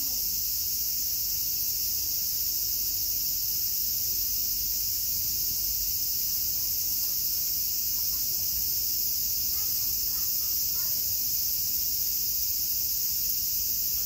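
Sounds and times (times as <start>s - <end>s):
cicadas chorus: 0.0s - 14.0s.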